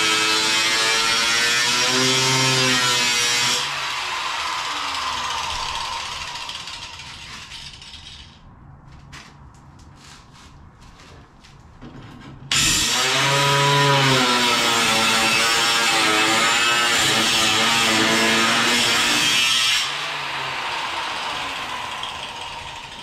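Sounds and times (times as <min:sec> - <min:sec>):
angle grinder cutting steel: 0:00.0 - 0:08.4, 0:12.5 - 0:23.0.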